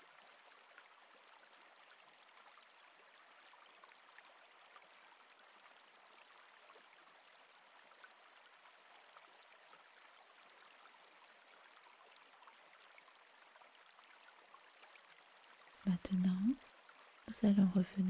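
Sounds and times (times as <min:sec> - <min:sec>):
stream water babbling: 0:00.0 - 0:18.0.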